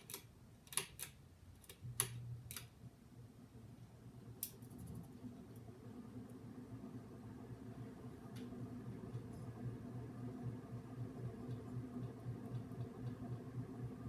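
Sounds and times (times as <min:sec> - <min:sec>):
ceiling fan motor humming: 0:00.0 - 0:14.0.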